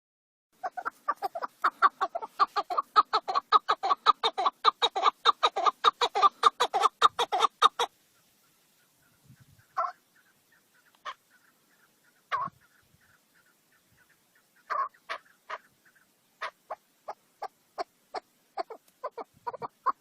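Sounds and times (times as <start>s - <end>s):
partridge calling chuk notes: 0.6s - 20.0s.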